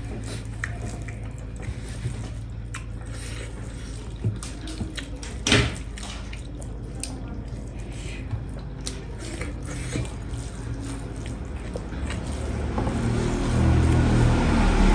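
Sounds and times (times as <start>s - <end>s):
fingers mixing wet food: 0.0s - 14.9s
low steady hum: 0.0s - 14.9s.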